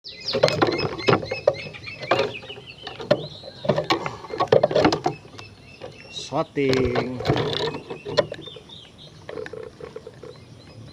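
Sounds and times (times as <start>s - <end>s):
songbird singing: 0.0s - 10.9s.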